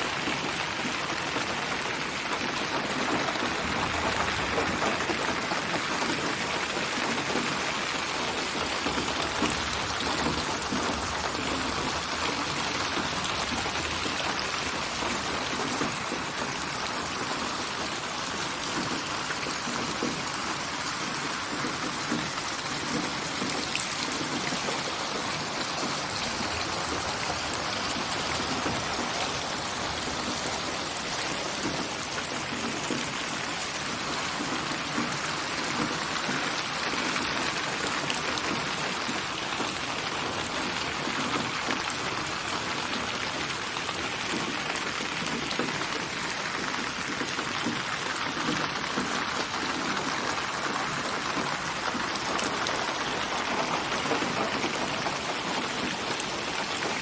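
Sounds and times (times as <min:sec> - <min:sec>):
rain patter on a surface: 0:00.0 - 0:57.0.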